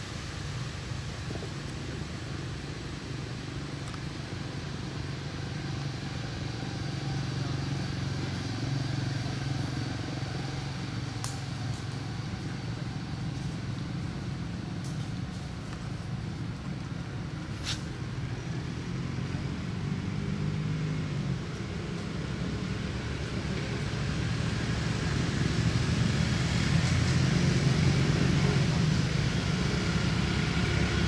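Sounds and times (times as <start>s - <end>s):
distant engine hum: 0.0s - 31.0s.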